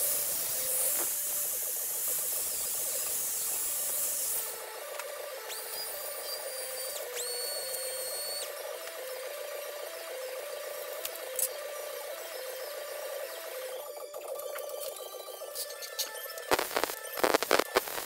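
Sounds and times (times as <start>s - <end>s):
grinder whining: 0.0s - 14.0s, 15.0s - 18.0s.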